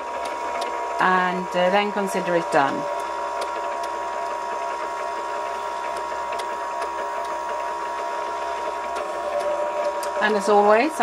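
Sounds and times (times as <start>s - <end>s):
drum carder motor hum: 0.0s - 11.0s.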